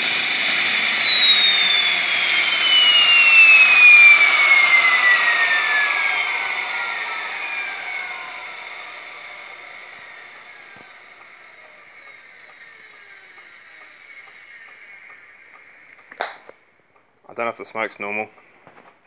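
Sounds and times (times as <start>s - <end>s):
gas turbine spooling down: 0.0s - 18.6s.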